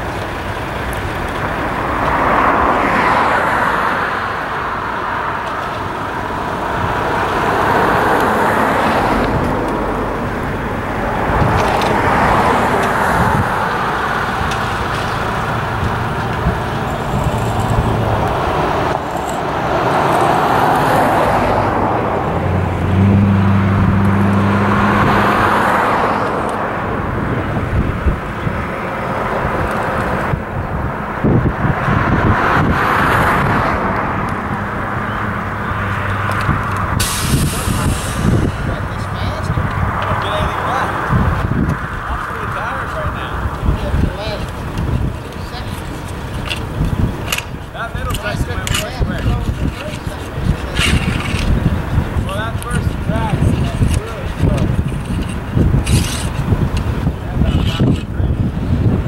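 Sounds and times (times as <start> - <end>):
low engine drone: 0.0 - 32.4, 33.6 - 59.0
cars passing: 0.0 - 59.0.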